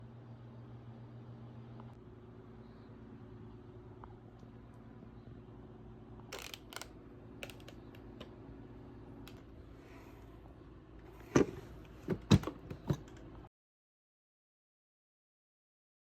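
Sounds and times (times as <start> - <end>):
faint low hum: 0.0 - 13.5.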